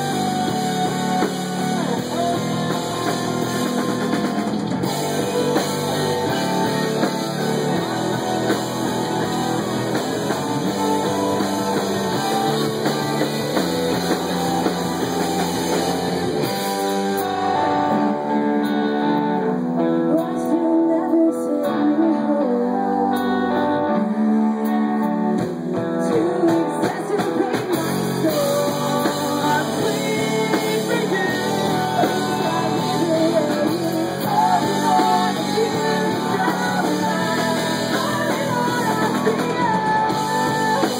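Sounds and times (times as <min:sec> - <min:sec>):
person singing: 0:00.0 - 0:15.5, 0:17.2 - 0:40.9
electric guitar: 0:00.0 - 0:40.9
live rock band playing: 0:00.0 - 0:40.9.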